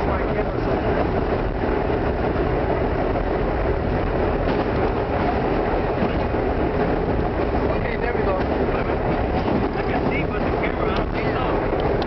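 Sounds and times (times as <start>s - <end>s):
subway train rumbling in tunnel: 0.0s - 12.0s.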